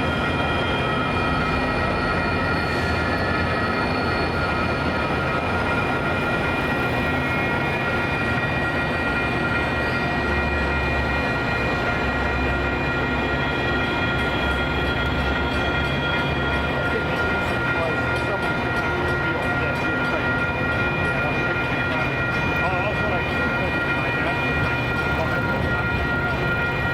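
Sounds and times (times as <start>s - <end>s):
crossing bell ringing: 0.0s - 26.9s
train rumbling past: 0.0s - 26.9s.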